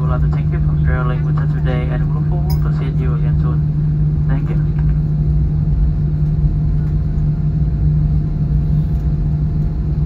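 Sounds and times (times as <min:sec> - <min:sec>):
airliner cabin rumble: 0:00.0 - 0:10.0
constant low hum: 0:00.0 - 0:10.0.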